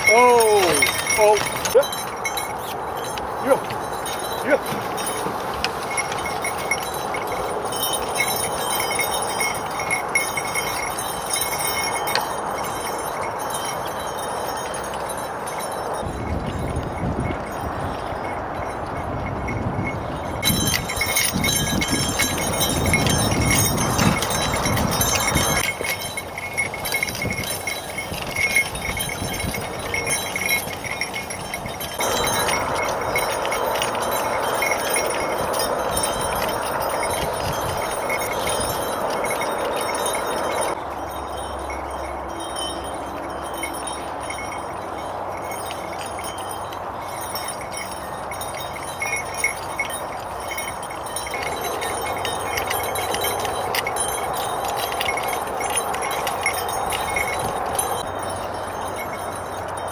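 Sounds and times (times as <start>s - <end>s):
open-air background noise: 0.0s - 59.9s
small bells jingling: 0.0s - 59.9s.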